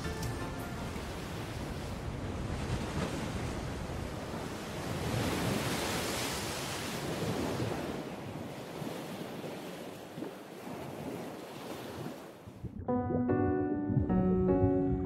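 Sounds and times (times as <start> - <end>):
sea waves breaking: 0.0 - 12.7.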